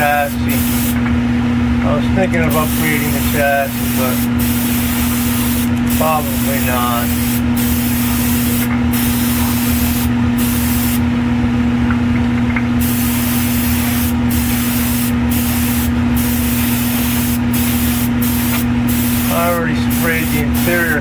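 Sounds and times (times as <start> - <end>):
airbrush air hiss: 0.0 - 1.0, 2.5 - 11.0, 12.8 - 21.0
steady low hum: 0.0 - 21.0.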